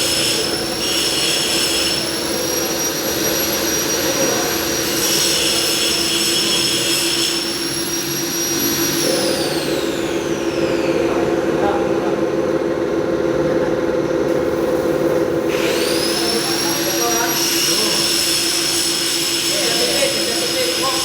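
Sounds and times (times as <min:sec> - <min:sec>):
milling machine spindle whine: 0:00.0 - 0:21.0.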